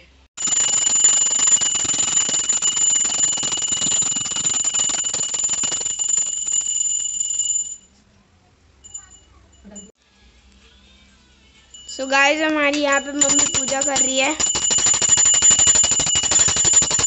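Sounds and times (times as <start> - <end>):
hand bell rung rapidly: 0.4 - 7.8, 8.9 - 9.9, 11.8 - 17.0.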